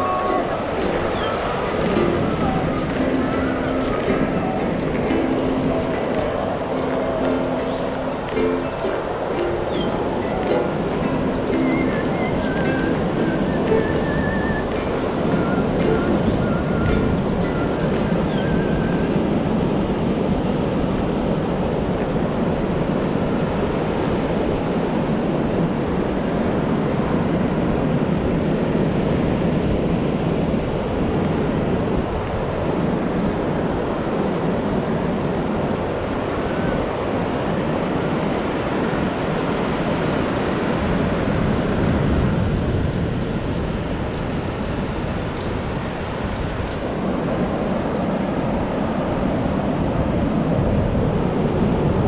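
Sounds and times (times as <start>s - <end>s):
waves breaking on beach: 0.0s - 52.0s
wind on microphone: 0.0s - 52.0s.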